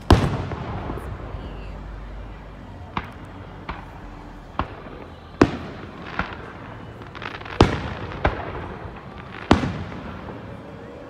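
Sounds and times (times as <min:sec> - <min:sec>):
faint firework crackling: 0:00.0 - 0:11.0
firework booms: 0:00.0 - 0:11.0.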